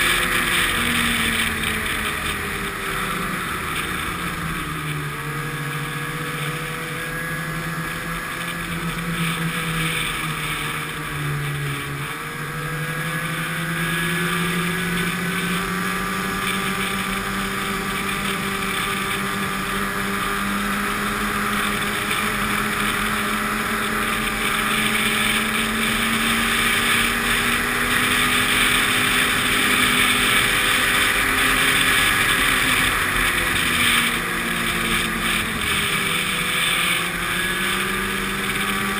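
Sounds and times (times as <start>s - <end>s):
snowmobile engine running: 0.0s - 38.9s
steady rushing noise: 0.0s - 38.9s.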